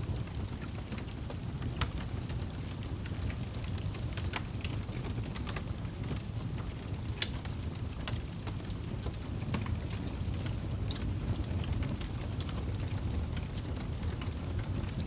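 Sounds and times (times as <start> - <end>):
fire popping and snapping: 0.0 - 15.0
wood fire crackling: 0.0 - 15.0.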